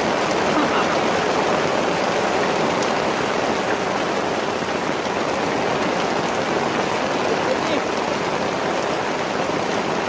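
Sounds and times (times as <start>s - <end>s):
heavy rain on water: 0.0s - 10.0s.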